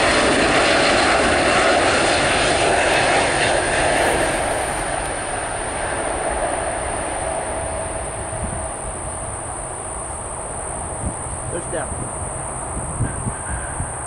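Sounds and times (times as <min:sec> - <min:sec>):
jet engine rush: 0:00.0 - 0:14.0.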